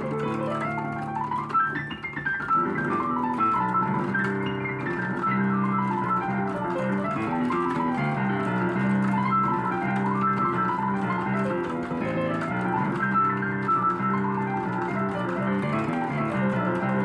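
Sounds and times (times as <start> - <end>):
electronic keyboard playing: 0.0 - 17.0.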